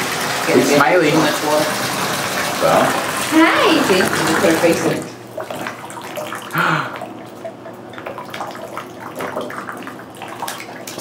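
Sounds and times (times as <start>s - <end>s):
bathwater splashing and dripping: 0.0s - 11.0s.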